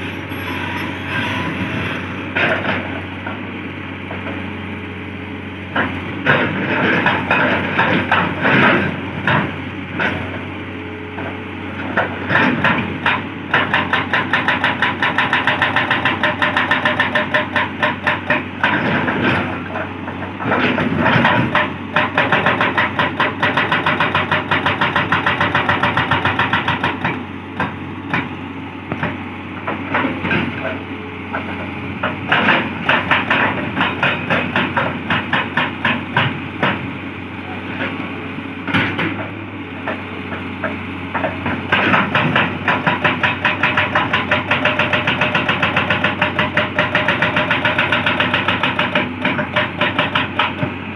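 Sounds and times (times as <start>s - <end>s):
excavator engine humming: 0.0s - 50.9s
hydraulic breaker pounding rock: 1.1s - 3.4s, 5.7s - 10.5s, 11.2s - 50.9s.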